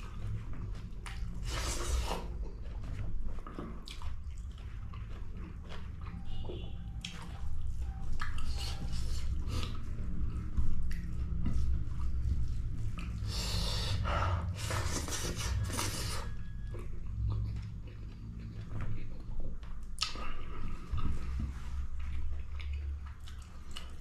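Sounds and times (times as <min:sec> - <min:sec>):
person chewing food: 0:00.0 - 0:24.0
steady low hum: 0:00.0 - 0:24.0.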